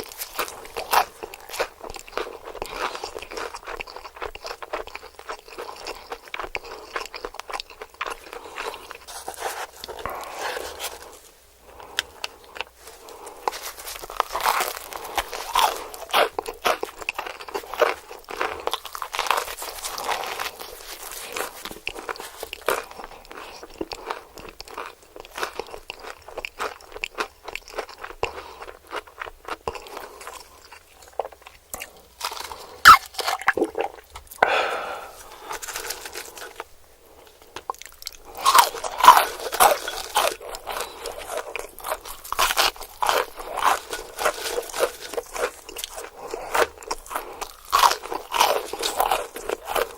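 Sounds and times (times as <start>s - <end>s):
crunching and chewing fried chicken: 0.0s - 49.9s.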